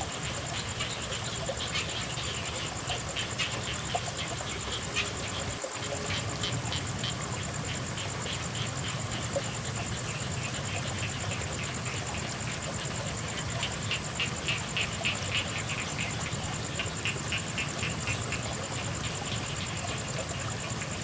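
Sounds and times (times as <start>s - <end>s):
frogs croaking: 0.0s - 21.0s
high insect trill: 0.0s - 21.0s.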